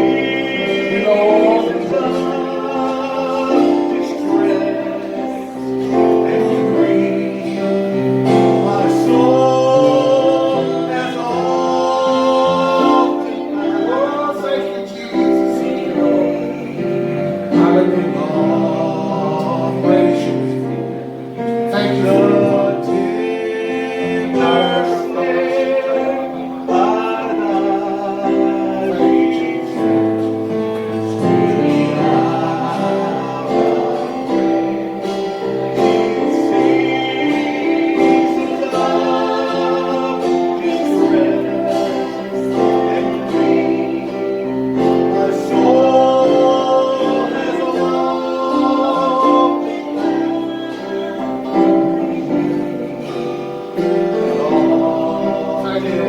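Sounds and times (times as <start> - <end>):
gospel singing voices: 0.0 - 56.0
instrumental accompaniment: 0.0 - 56.0.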